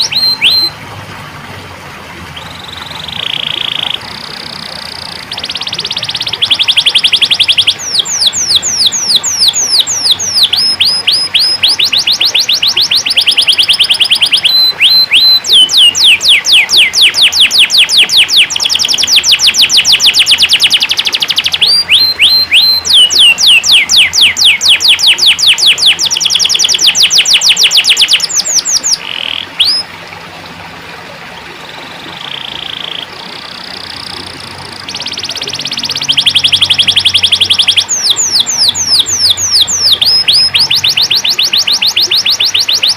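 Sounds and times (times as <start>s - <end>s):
canary singing rapid trills: 0.0s - 0.8s, 2.4s - 29.8s, 31.8s - 42.9s.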